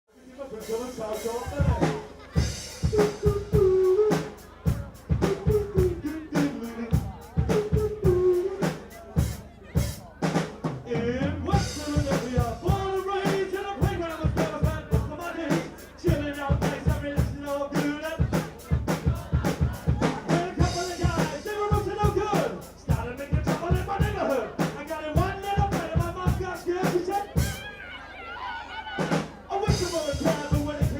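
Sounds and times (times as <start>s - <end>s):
person singing or rapping: 0.2s - 10.0s, 10.6s - 27.6s, 29.1s - 30.9s
drum kit beat: 0.4s - 27.7s, 29.0s - 30.9s.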